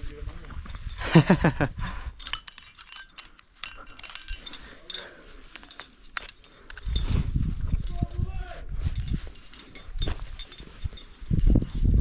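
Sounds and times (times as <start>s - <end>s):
metal climbing gear clinking: 0.5s - 12.0s.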